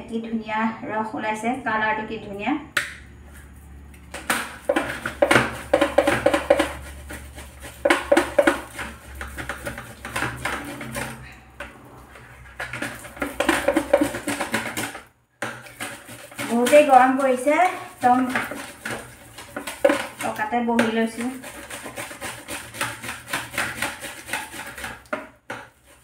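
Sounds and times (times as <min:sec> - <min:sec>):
fruit scraping on metal grater: 0:04.2 - 0:11.4, 0:12.0 - 0:26.0.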